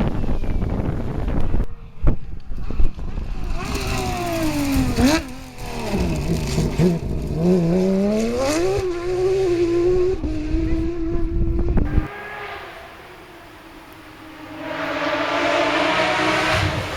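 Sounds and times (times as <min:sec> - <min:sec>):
rally car engine revving: 0:03.3 - 0:16.9.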